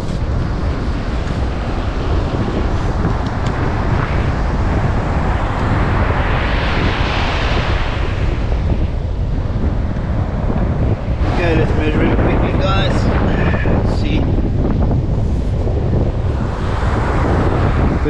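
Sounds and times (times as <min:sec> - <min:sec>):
surf on the beach: 0:00.0 - 0:18.0
wind buffeting microphone: 0:00.0 - 0:18.0.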